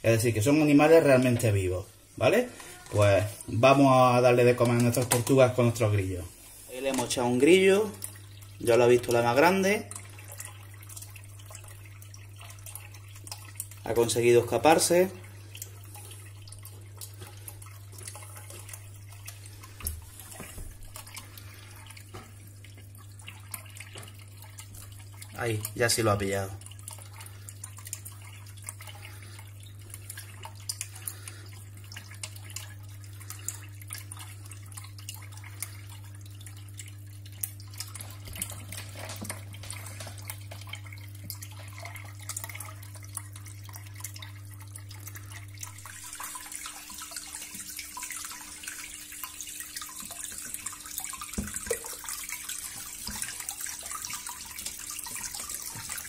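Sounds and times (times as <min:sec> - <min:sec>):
low steady hum: 0:00.0 - 0:56.0
water drips: 0:00.0 - 0:56.0
water splashing and trickling: 0:00.0 - 0:56.0.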